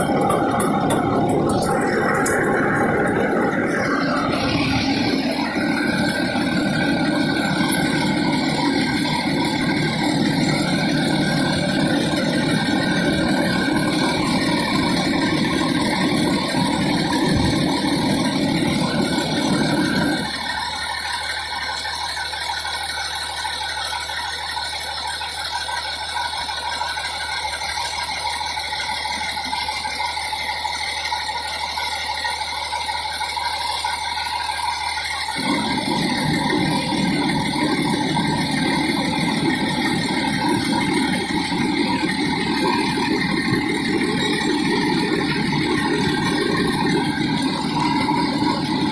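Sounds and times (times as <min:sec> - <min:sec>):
fire engine engine running: 0:00.0 - 0:48.9.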